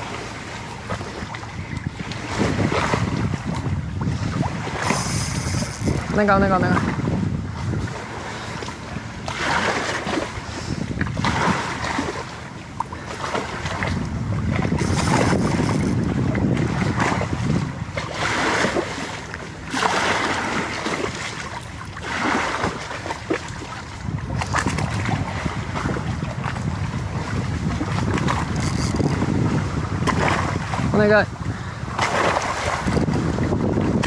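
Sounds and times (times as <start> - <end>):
waves washing against shore: 0.0 - 34.0
wind rumbling on microphone: 0.0 - 34.0.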